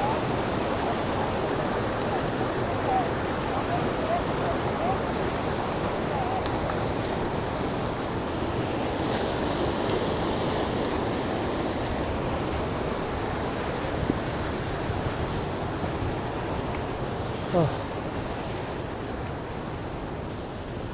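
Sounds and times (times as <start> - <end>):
small waterfall splashing: 0.0 - 19.7.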